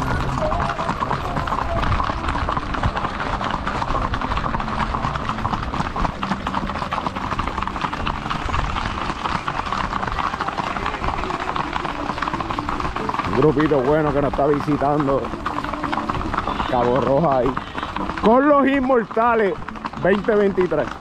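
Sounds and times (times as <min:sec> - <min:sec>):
horse hooves clip-clopping: 0:00.0 - 0:21.0.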